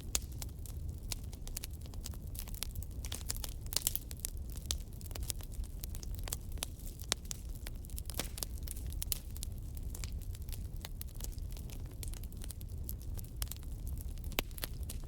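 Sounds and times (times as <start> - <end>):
burning wood popping and crackling: 0.0 - 15.0
campfire low rumble: 0.0 - 15.0.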